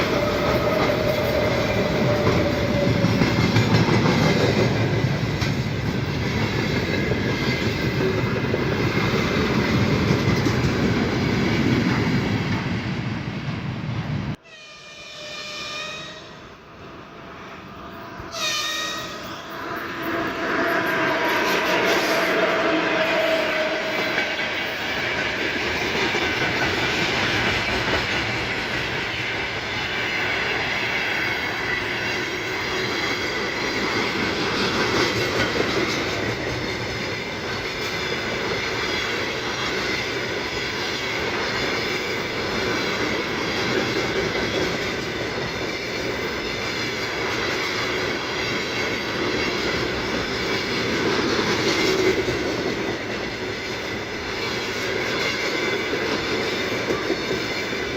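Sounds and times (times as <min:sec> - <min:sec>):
freight train wheels clattering: 0:00.0 - 0:12.8, 0:20.8 - 0:57.9.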